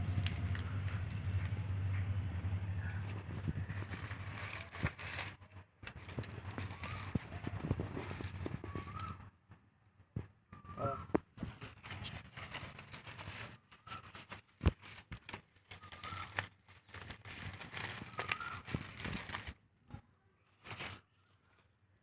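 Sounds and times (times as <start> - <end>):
dry corn husks rustling: 0.0 - 9.2, 10.7 - 19.6, 20.4 - 21.7.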